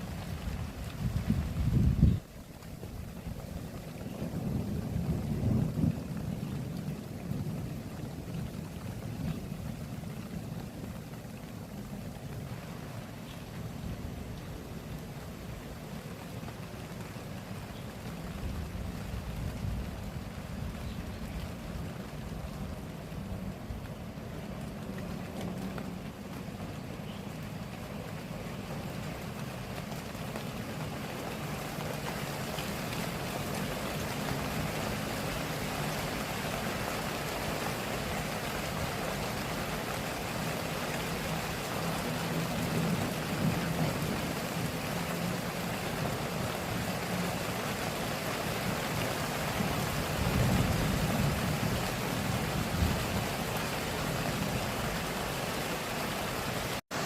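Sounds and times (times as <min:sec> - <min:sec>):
rain downpour: 0:00.0 - 0:57.0.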